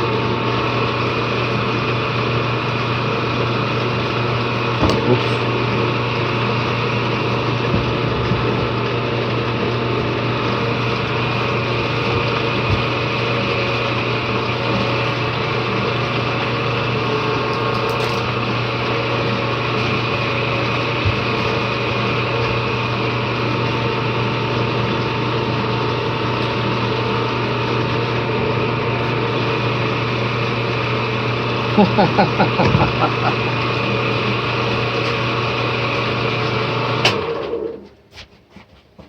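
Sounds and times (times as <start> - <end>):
dough sheeter motor humming: 0.0 - 38.1.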